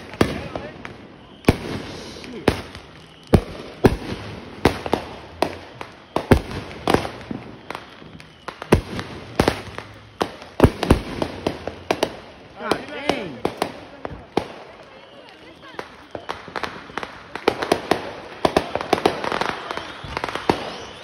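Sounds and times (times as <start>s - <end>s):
fireworks bursting with sharp bangs: 0.0s - 21.0s.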